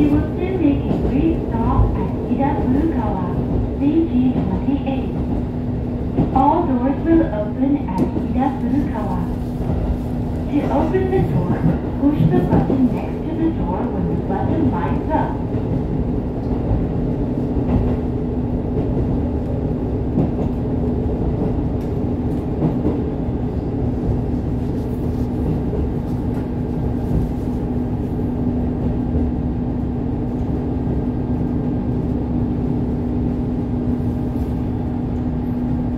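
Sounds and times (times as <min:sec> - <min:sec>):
railcar engine hum and rumble: 0:00.0 - 0:35.9.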